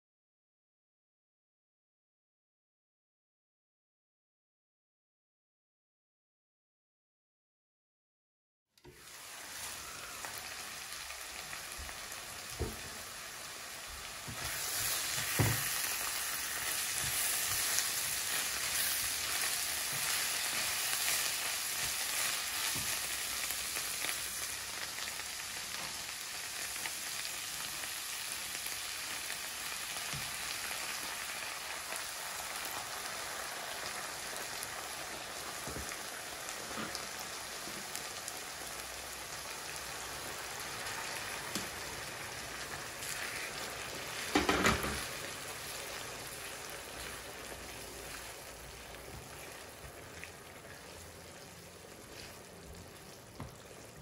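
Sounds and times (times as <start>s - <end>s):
food sizzling in a frying pan: 8.8s - 54.0s.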